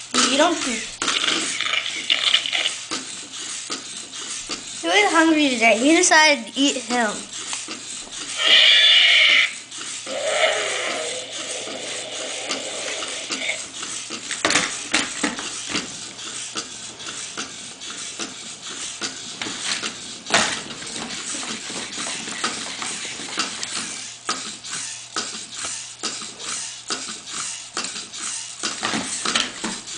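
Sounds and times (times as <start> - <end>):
toy robot motor running: 0.0 - 29.9.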